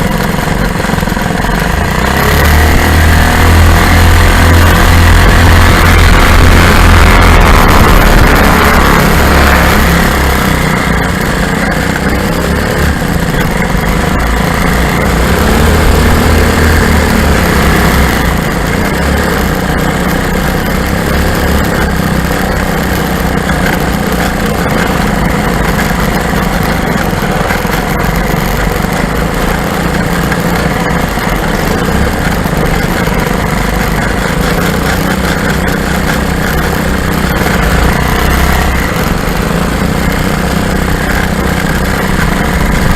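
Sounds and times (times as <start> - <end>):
aircraft engines running: 0.0 - 42.9.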